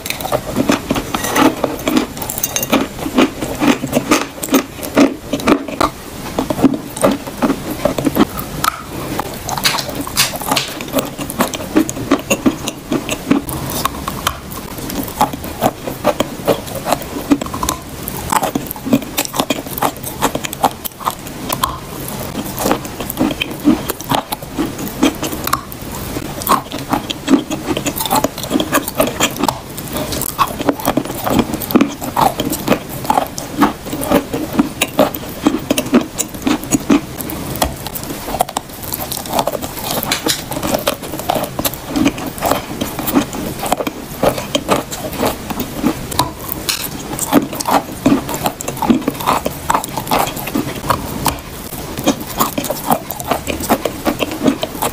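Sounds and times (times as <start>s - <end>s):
chewing crunchy chalk: 0.0s - 54.9s.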